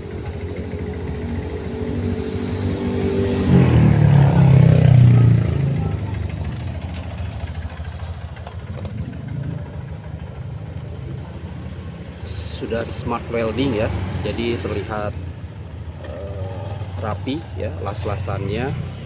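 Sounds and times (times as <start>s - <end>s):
vehicle engine passing by: 0.0s - 19.0s.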